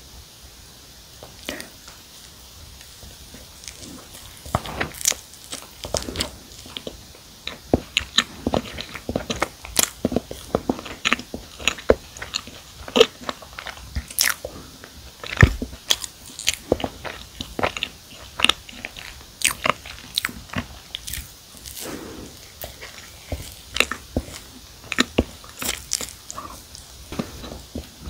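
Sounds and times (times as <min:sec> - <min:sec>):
chewing and biting cookie: 0:01.3 - 0:28.0.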